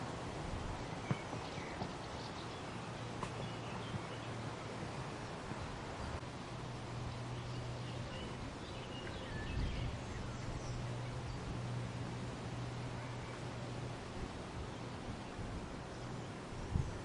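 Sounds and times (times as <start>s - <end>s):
steady low hum: 0.0s - 17.0s
wind rustling willow leaves: 0.0s - 17.0s.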